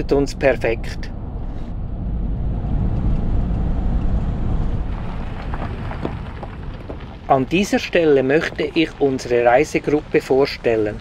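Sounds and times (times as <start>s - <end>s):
road rumble inside vehicle: 0.0s - 11.0s
vehicle engine noise: 0.0s - 11.0s.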